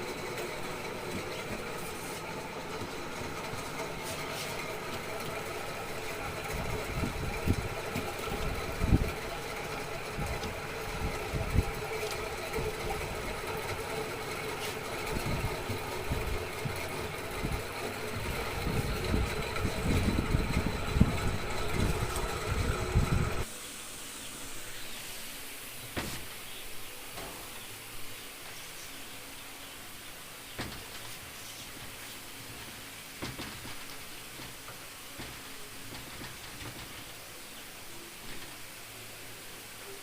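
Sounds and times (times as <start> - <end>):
machine humming: 0.0 - 40.0.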